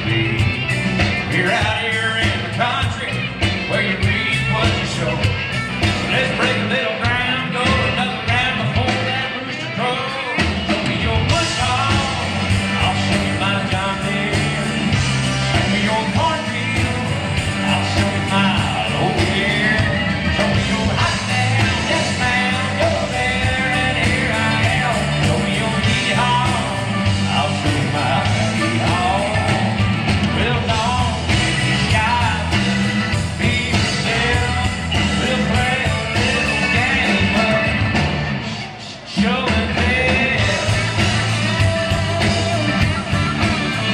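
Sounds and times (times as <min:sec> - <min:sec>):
live country band playing: 0:00.0 - 0:43.9
person singing: 0:00.0 - 0:43.9.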